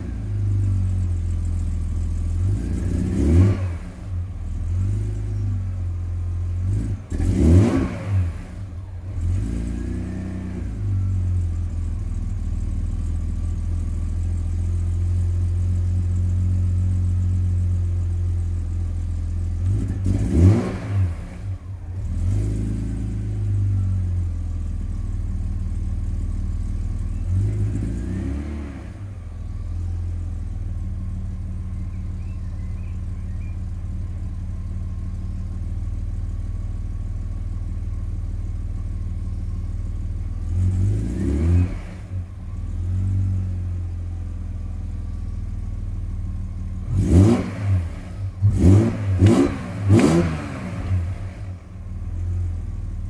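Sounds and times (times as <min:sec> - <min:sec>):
engine revving: 0:00.0 - 0:36.6, 0:37.6 - 0:45.0, 0:46.0 - 0:53.0
car engine idling: 0:00.0 - 0:53.0.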